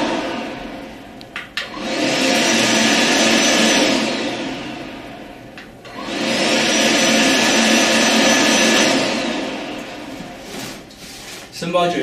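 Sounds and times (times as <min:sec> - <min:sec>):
dryer blower whine: 0:00.0 - 0:12.0.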